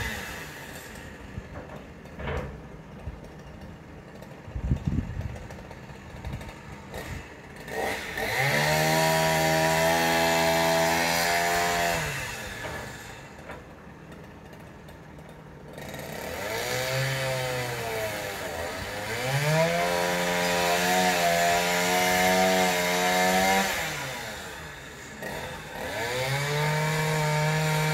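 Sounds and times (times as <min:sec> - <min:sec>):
chainsaw revving and cutting wood: 0:00.0 - 0:27.9.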